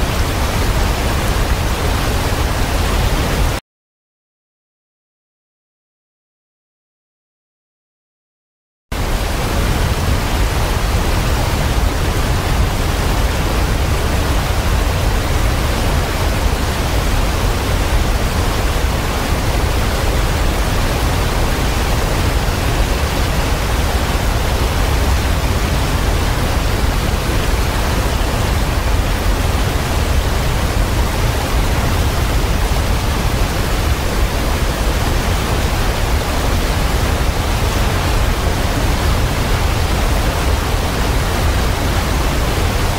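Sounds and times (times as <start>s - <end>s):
waterfall rushing: 0.0s - 3.6s, 9.0s - 42.9s.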